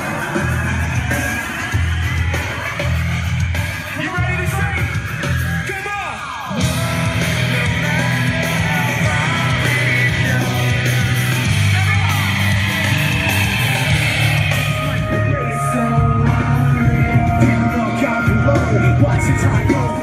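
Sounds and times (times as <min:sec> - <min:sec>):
loud rock music with singing: 0:00.0 - 0:20.0.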